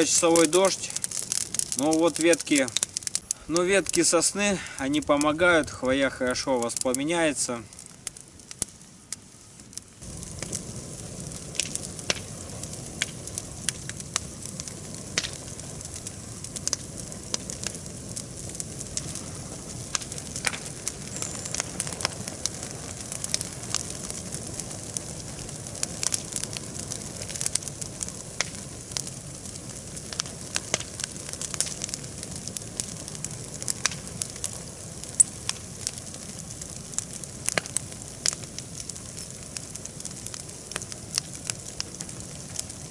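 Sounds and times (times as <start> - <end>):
bonfire hissing and crackling: 0.0 - 42.9.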